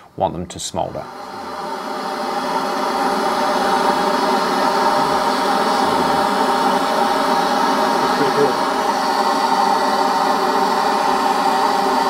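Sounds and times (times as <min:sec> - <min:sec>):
gas blowtorch hissing: 0:00.7 - 0:12.0.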